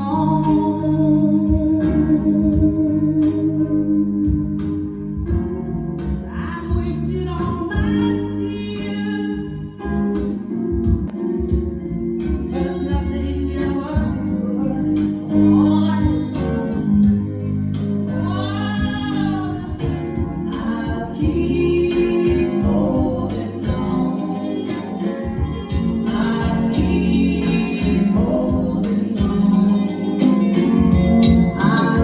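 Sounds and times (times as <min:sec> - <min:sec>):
song with heavy bass: 0:00.0 - 0:32.0.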